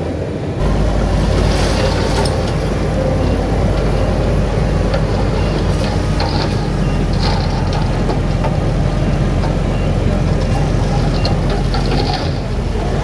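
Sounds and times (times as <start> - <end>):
heavy diesel machinery engine drone: 0.0 - 13.0
metallic clanks and rattles: 0.6 - 13.0.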